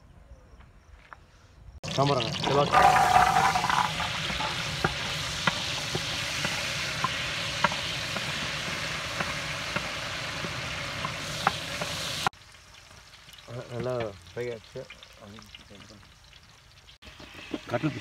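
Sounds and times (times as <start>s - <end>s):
onions sizzling in hot oil: 1.8s - 18.0s.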